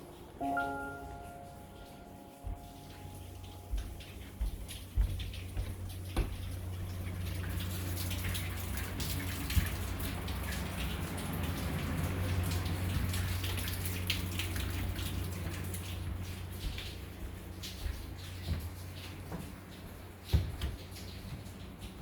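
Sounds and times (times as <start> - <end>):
water running from a tap: 0.2 - 22.0.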